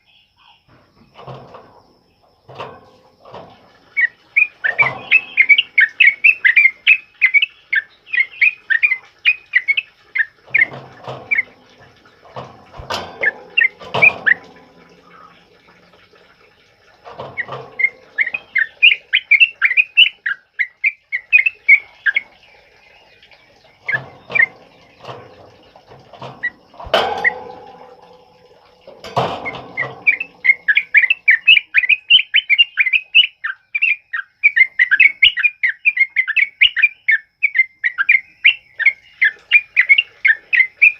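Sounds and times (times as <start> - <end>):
birds singing chattering phrases: 0.0 - 40.9.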